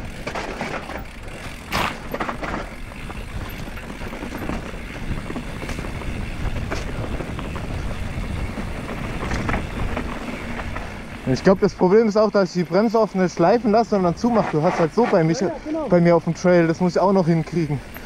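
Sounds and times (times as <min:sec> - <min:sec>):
bike rattling and knocking: 0:00.0 - 0:18.0
tyres rumbling over dirt: 0:00.0 - 0:18.0.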